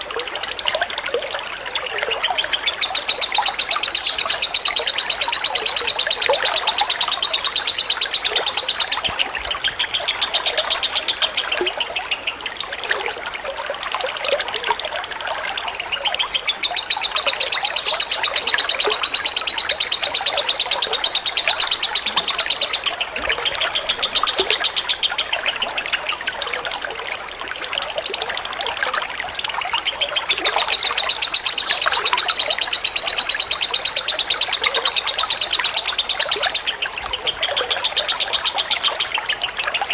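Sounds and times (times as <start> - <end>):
trickling water: 0.0 - 39.9
lovebird chattering trill: 1.3 - 39.9.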